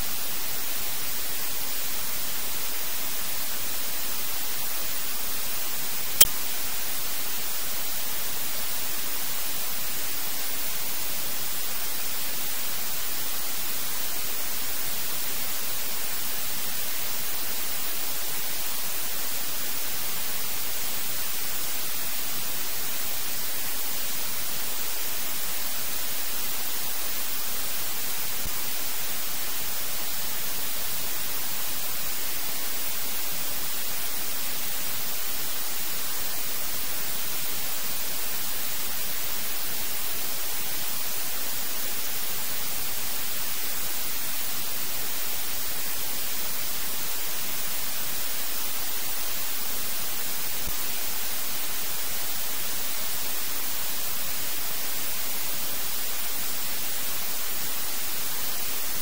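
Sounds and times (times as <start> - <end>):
waterfall rushing hiss: 0.0 - 59.0.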